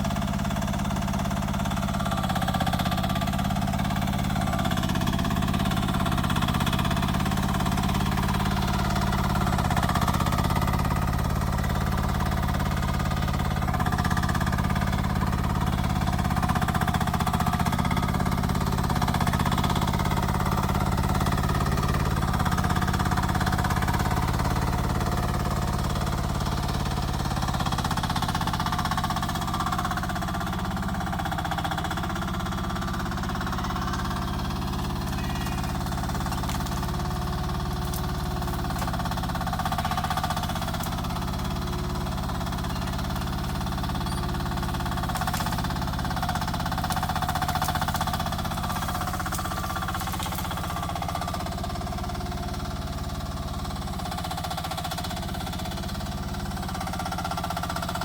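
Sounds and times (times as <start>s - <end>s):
excavator engine running: 0.0s - 58.0s.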